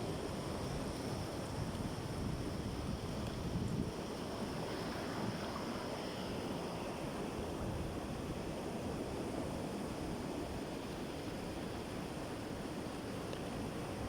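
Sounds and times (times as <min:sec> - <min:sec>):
waves washing: 0:00.0 - 0:14.0.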